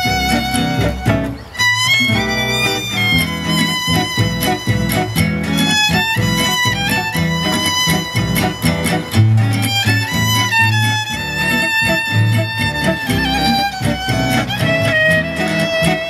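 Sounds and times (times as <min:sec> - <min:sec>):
acoustic guitars strumming: 0:00.0 - 0:16.0
double bass: 0:00.0 - 0:16.0
violin melody: 0:00.0 - 0:16.0.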